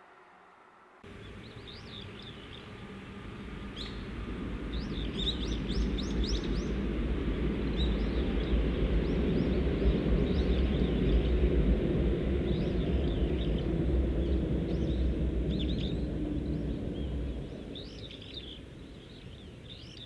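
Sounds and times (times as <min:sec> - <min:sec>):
electric train rumble: 0:00.0 - 0:20.0
small birds chirping: 0:01.1 - 0:11.6, 0:12.4 - 0:20.0.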